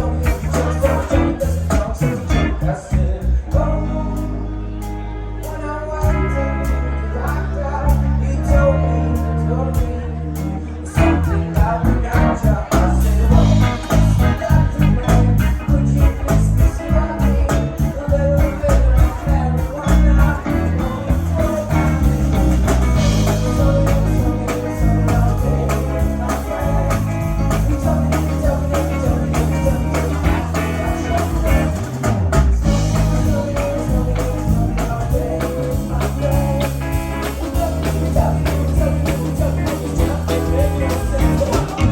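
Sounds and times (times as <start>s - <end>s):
bass: 0.0s - 41.9s
drums: 0.0s - 41.9s
guitar: 0.0s - 41.9s
person singing: 0.0s - 41.9s.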